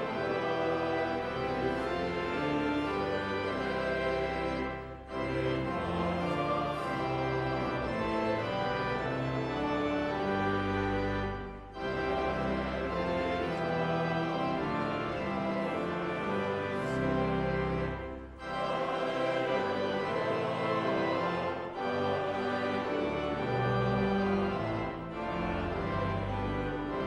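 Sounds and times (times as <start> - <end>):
organ playing sustained chords: 0.0 - 27.0.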